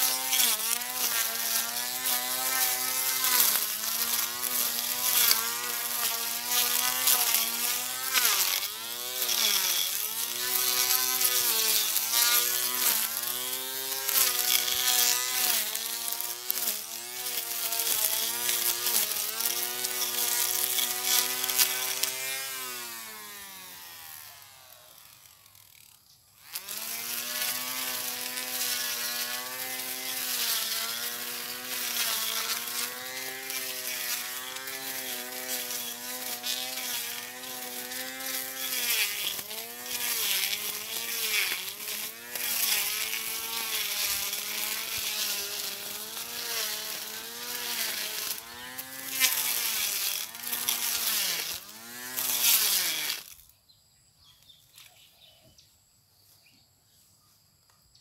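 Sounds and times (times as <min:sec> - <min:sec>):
electric grass cutter whining: 0:00.0 - 0:53.6.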